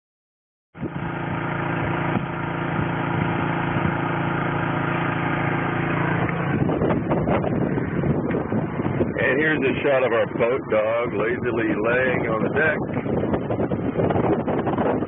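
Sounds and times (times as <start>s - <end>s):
small generator running: 0.8s - 15.0s.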